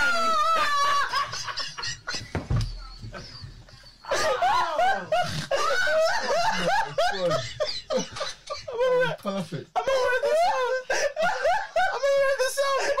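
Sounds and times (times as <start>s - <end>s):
woman laughing hard: 0.0s - 9.2s, 9.8s - 13.0s.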